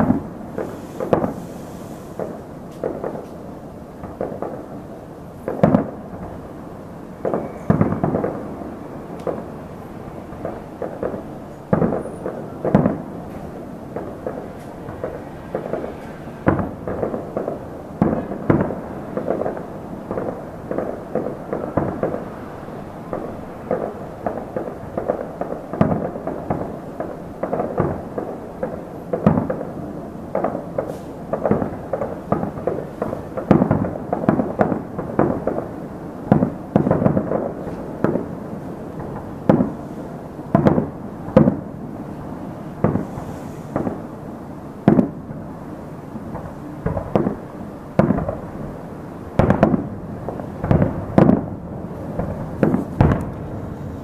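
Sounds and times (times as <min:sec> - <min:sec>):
distant fireworks booming: 0:00.0 - 0:54.0.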